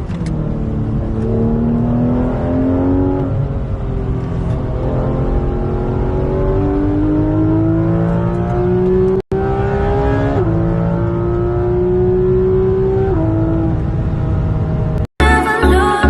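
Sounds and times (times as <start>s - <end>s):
car engine accelerating: 0.0s - 15.8s.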